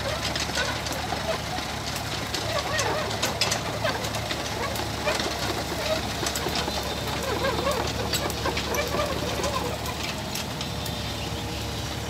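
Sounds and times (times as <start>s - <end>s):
excavator diesel engine humming: 0.0s - 12.0s
wavering bird-like calls: 0.0s - 12.0s.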